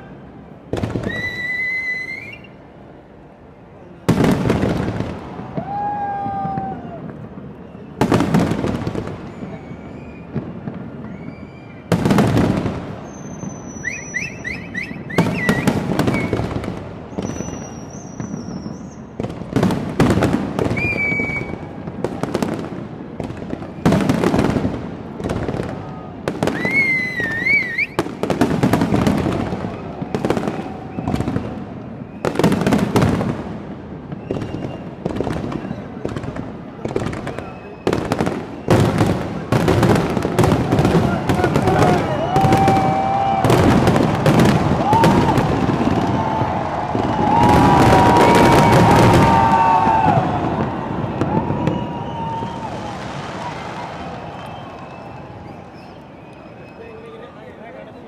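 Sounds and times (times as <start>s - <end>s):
high fireworks whistles: 0.0s - 2.8s, 4.0s - 57.3s
fireworks crackling: 0.2s - 58.0s
fireworks booming: 0.6s - 2.5s, 4.0s - 55.6s.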